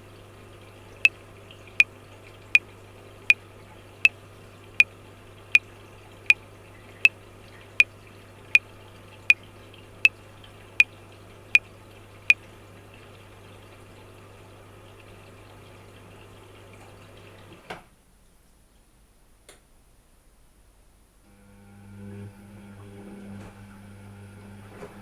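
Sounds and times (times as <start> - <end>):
water-like noise with low hum: 0.0 - 25.0.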